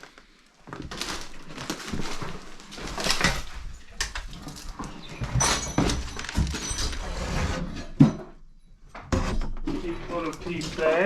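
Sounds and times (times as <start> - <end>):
objects knocking and scraping: 0.8 - 11.0.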